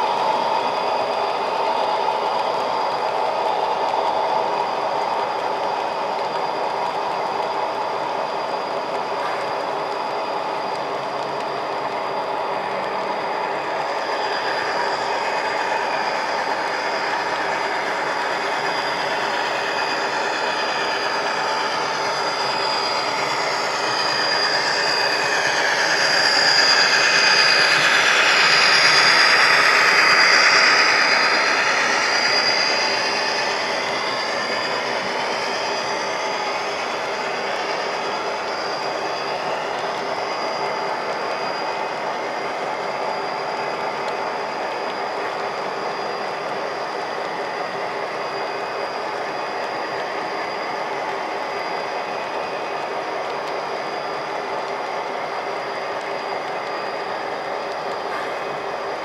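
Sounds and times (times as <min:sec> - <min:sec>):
model train wheels rumbling on rail: 0:00.0 - 0:59.0
thin high whine: 0:00.0 - 0:59.0.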